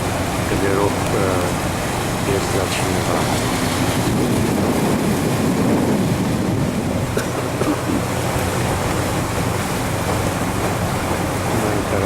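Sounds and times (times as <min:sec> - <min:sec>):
boat engine hum: 0:00.0 - 0:12.0
water rushing: 0:00.0 - 0:12.0
wind buffeting microphone: 0:00.0 - 0:12.0.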